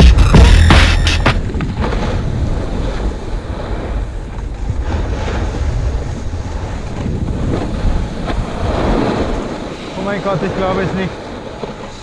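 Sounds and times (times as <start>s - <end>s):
wind rushing over microphone: 1.3s - 11.6s
skis scraping over snow: 1.4s - 12.0s.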